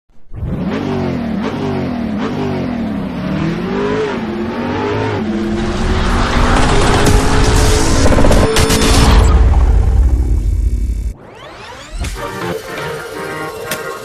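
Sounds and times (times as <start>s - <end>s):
car engine revving: 0.3s - 13.7s.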